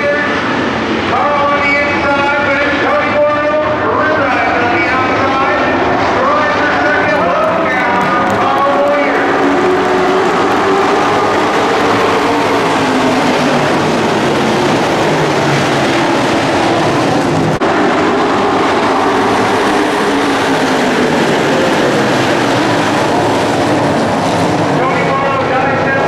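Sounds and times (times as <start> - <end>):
racing truck engines roaring: 0.0 - 26.0.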